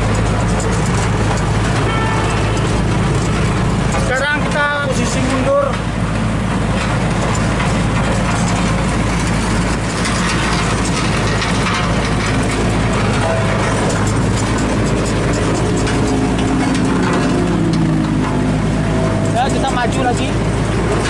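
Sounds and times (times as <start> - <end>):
road roller engine running: 0.0 - 21.0.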